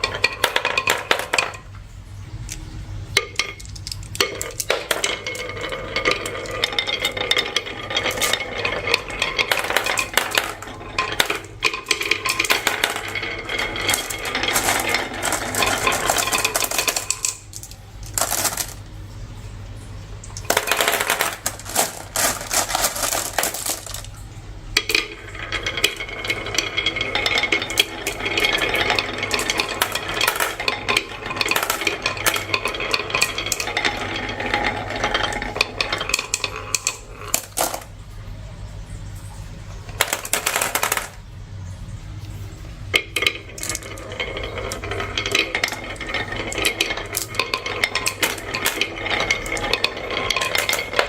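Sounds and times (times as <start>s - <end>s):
marbles rolling and clattering: 0.0s - 51.0s.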